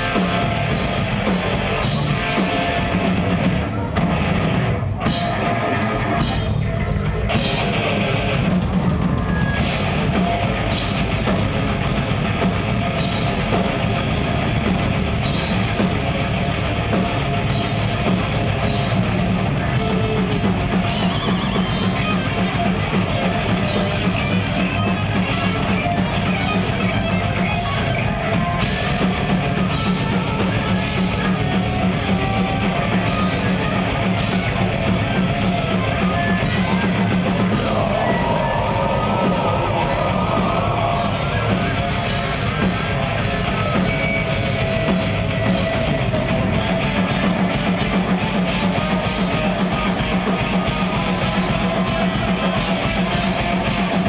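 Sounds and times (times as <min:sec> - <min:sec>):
bass guitar: 0:00.0 - 0:54.0
distorted guitars: 0:00.0 - 0:54.0
fast drum-kit playing: 0:00.0 - 0:54.0.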